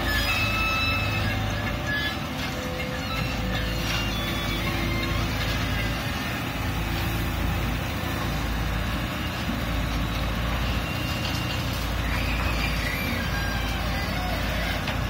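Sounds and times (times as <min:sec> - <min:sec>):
excavator diesel engines running: 0:00.0 - 0:15.0.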